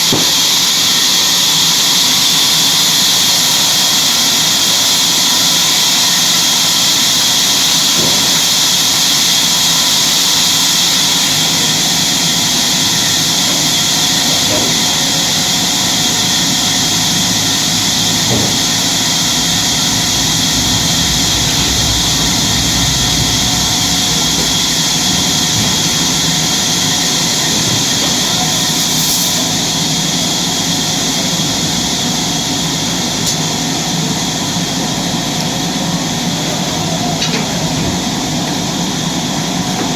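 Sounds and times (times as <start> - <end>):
sawmill saw whining: 0.1 - 33.7.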